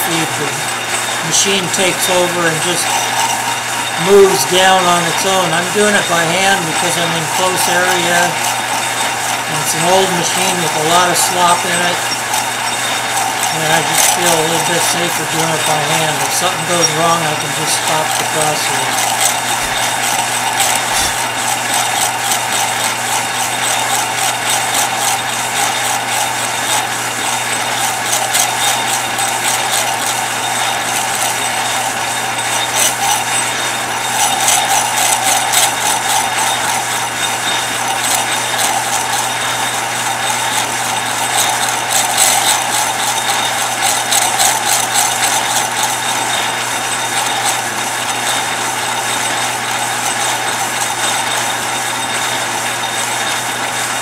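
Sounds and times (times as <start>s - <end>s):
fast even machine rattle: 0.0s - 54.0s
metal lathe running: 0.0s - 54.0s
motor hum: 0.0s - 54.0s.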